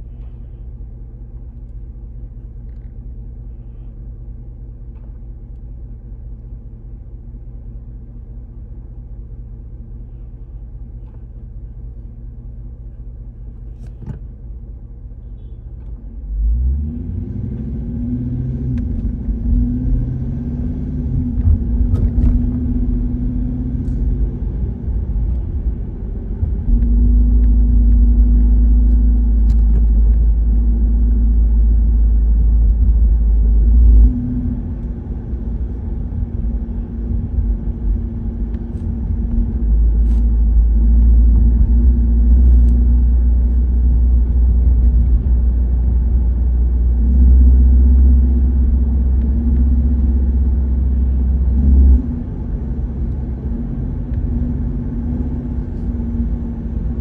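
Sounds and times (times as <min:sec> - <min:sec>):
car engine from inside cabin: 0:00.0 - 0:57.0
road noise: 0:00.0 - 0:57.0.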